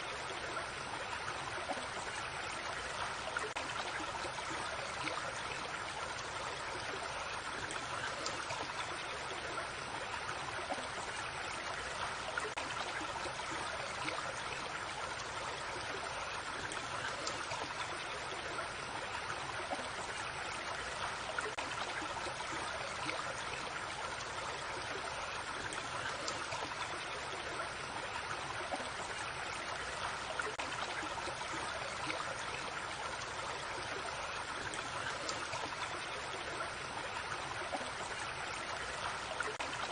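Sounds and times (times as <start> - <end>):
creek water babbling over stones: 0.0 - 39.9.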